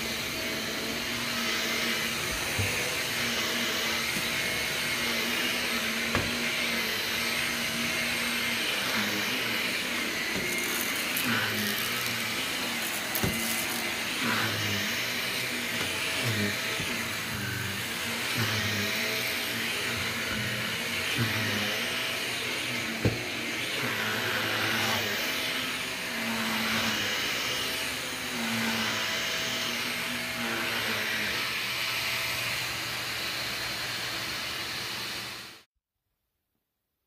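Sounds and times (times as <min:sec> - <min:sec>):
stick vacuum on carpet: 0:00.0 - 0:35.6.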